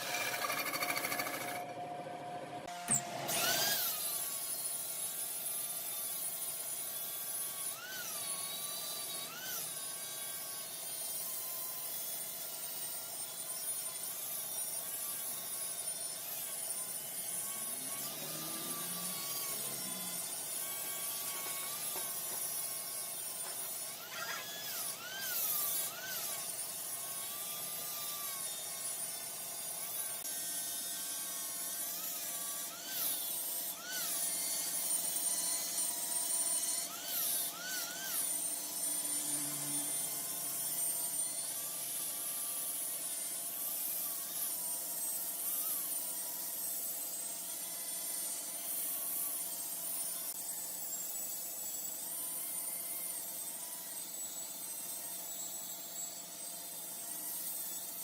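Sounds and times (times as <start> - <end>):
wood lathe cutting with whine: 0.0 - 58.0.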